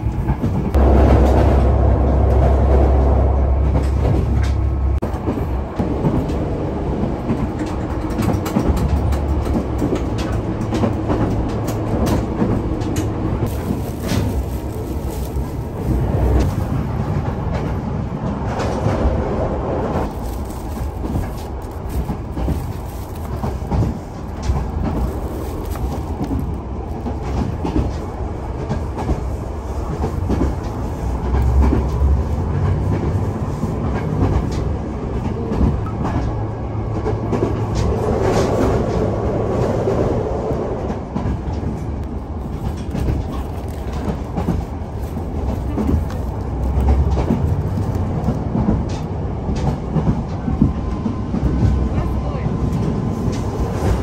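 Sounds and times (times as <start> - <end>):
railcar engine rumble: 0.0 - 54.0
wheels clacking over rail joints: 3.6 - 39.1, 40.8 - 52.1.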